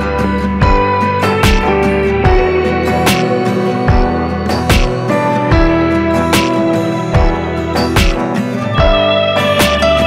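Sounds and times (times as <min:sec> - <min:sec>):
plucked guitar music: 0:00.0 - 0:10.0
steady beat: 0:00.6 - 0:10.0.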